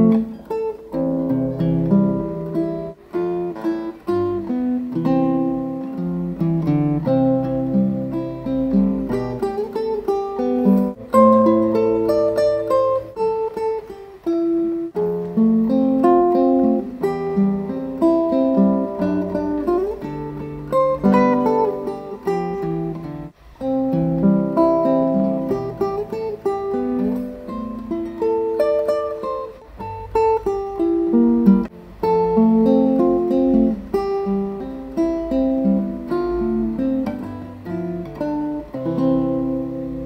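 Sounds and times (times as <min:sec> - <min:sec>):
fingerpicked classical guitar: 0:00.0 - 0:40.0.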